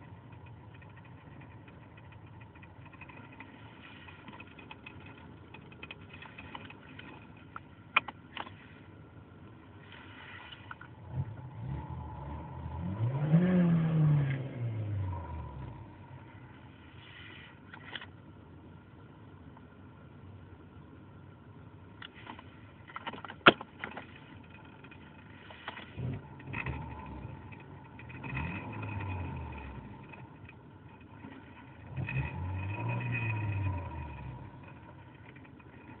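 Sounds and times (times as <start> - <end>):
low mechanical droning with whine: 0.0 - 36.0.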